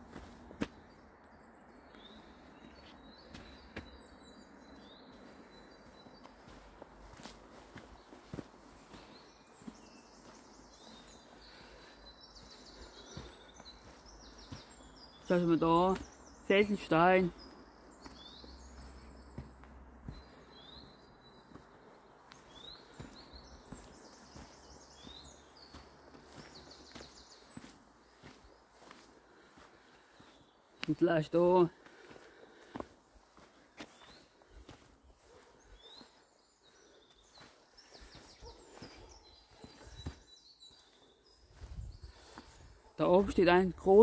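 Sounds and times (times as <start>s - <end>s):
small birds singing: 0.0s - 44.0s
songbirds chirping: 0.0s - 44.0s
soft footsteps: 1.9s - 16.4s, 17.3s - 31.0s, 31.7s - 43.4s.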